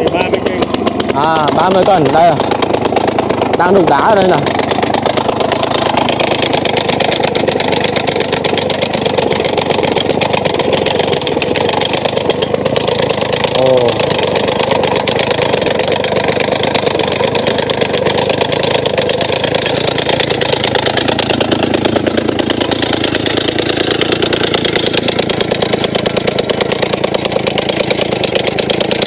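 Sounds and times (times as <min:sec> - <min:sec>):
engine running: 0:00.0 - 0:29.0
rock breaker pounding rock: 0:00.0 - 0:29.0.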